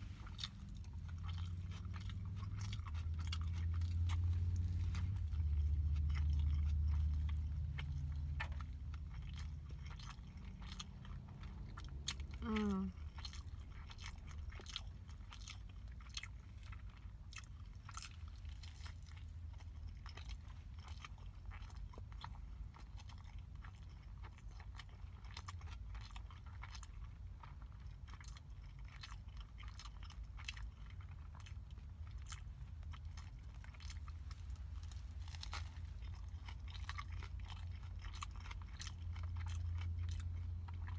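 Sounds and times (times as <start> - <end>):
chewing hamburger: 0.0 - 40.9.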